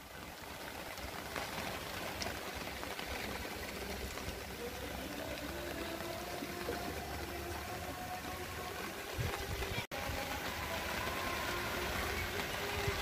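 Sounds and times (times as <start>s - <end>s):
rain falling on lake: 0.0s - 13.0s.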